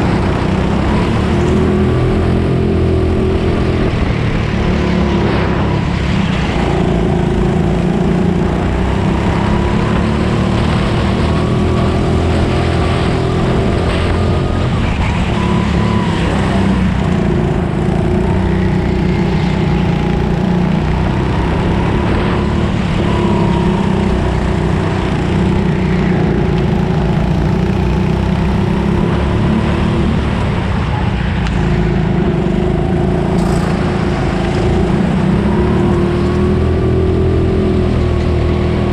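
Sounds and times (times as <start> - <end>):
go-kart engine racing: 0.0 - 38.9.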